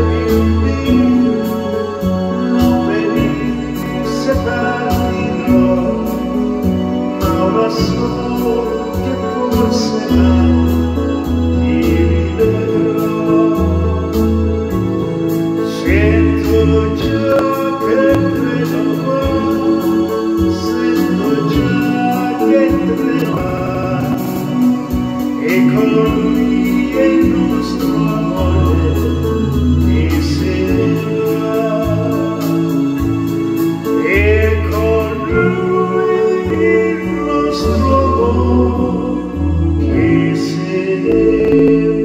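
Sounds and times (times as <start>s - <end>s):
backing music with bass: 0.0s - 42.0s
man singing into microphone: 0.0s - 42.0s.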